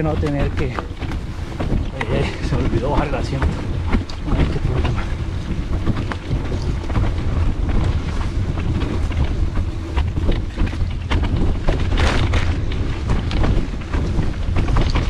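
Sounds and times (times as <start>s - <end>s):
bike rattling over rough ground: 0.0s - 15.0s
wind rumble on microphone: 0.0s - 15.0s.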